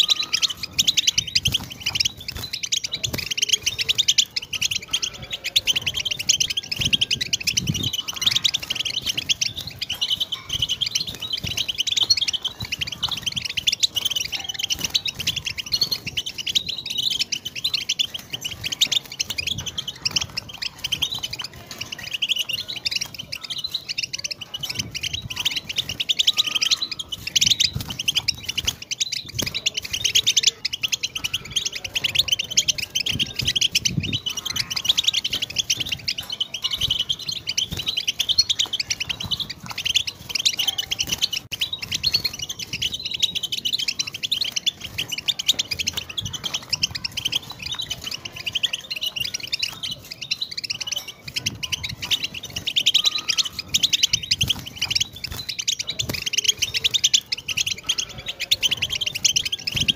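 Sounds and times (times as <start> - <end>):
bird twittering and trilling: 0.0 - 59.9.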